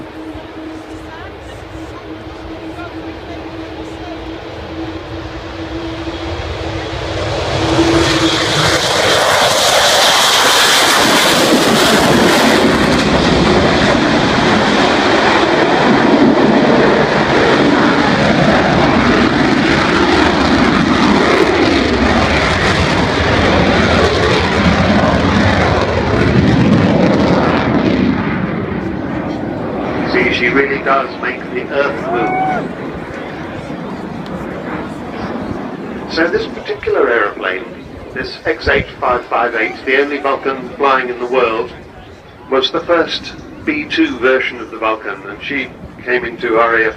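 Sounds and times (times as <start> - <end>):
high whine: 0.0 - 46.9
loud jet roar: 0.0 - 46.9.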